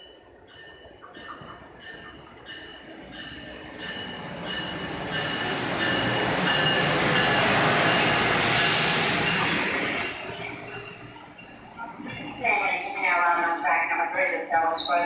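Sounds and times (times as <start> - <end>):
high-speed train passing: 0.0 - 15.0.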